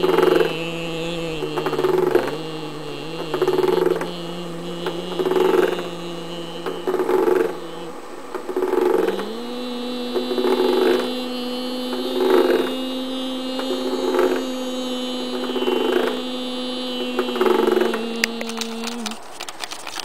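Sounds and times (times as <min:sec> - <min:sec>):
person humming: 0:00.0 - 0:19.2.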